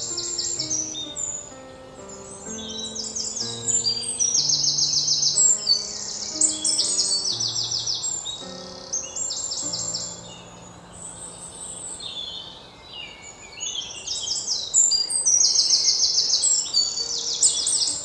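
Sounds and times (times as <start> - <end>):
songbirds chirping trills: 0.0 - 18.0.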